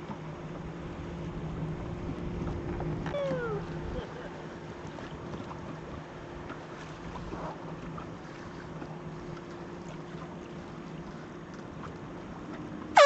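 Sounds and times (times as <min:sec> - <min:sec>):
boat motor humming: 0:00.0 - 0:13.0
water noise: 0:00.0 - 0:13.0
wind: 0:00.0 - 0:13.0.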